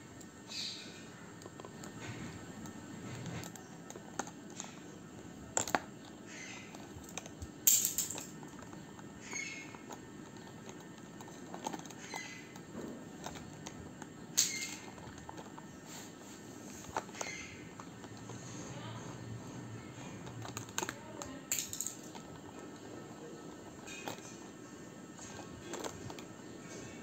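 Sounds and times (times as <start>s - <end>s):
plastic pens clicking and rattling: 1.3s - 27.0s.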